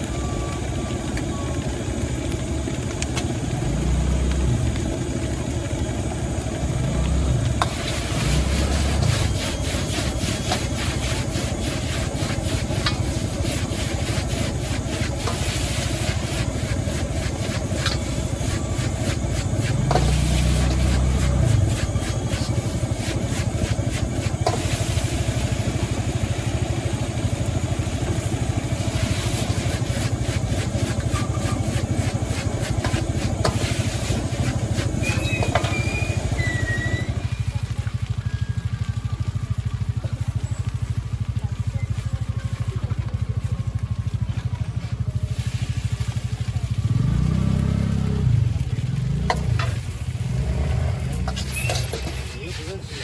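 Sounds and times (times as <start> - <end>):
gas burner roaring: 0.0 - 53.0.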